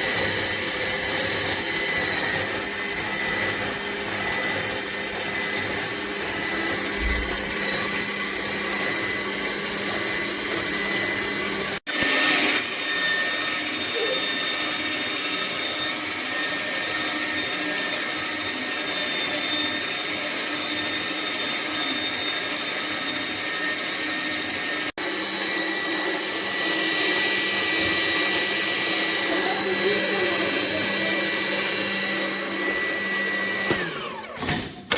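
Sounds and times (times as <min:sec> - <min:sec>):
juicer motor whining: 0:00.0 - 0:34.9.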